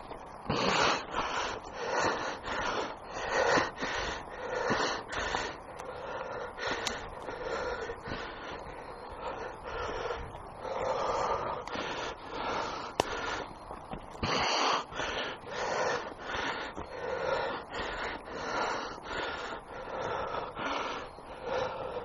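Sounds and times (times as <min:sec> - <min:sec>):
heavy breathing: 0:00.0 - 0:22.0.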